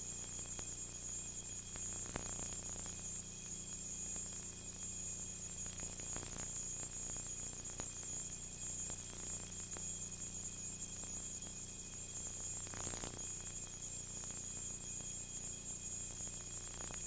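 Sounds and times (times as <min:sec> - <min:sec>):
tape hiss and low hum: 0:00.0 - 0:17.0.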